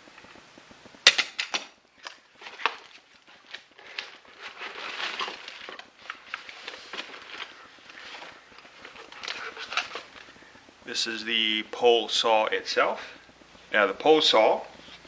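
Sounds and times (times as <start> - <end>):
packaging rustling: 1.0 - 15.0.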